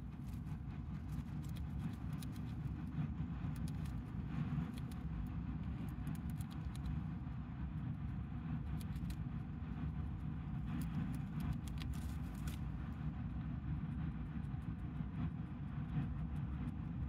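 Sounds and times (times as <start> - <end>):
hamster nibbling crunching clicks: 0.0 - 17.0
steady low rumble: 0.0 - 17.0.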